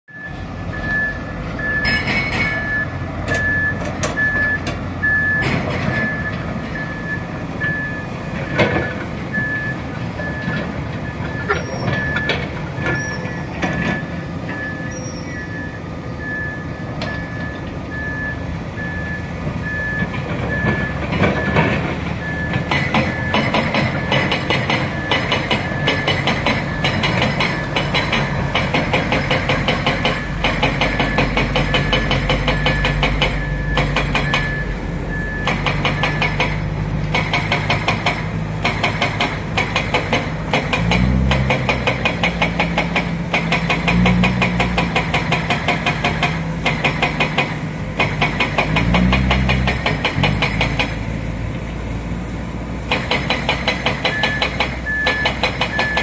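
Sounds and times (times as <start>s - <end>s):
diesel engine ticking clatter: 0.2s - 56.0s.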